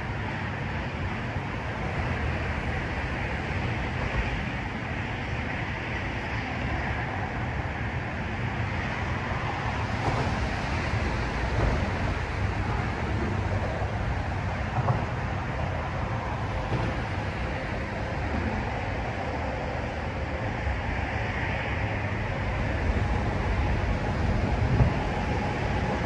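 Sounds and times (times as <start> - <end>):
traffic rumble on bridge: 0.0 - 26.0
wind on microphone: 0.0 - 26.0.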